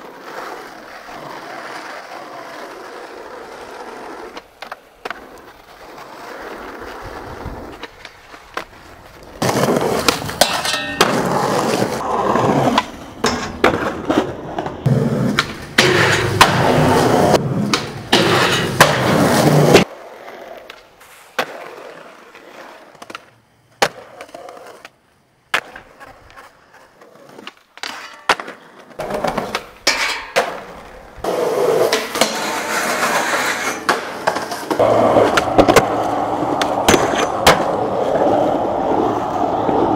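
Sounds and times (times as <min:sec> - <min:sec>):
skateboard clacking: 0:00.0 - 0:39.9
skateboard wheels rolling: 0:00.0 - 0:39.9.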